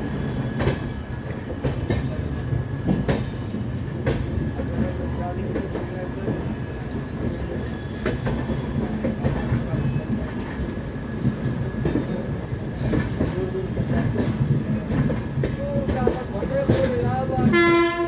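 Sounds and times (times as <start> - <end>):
train coaches rumbling: 0.0 - 18.0
wheels clacking over rail joints: 0.2 - 18.0.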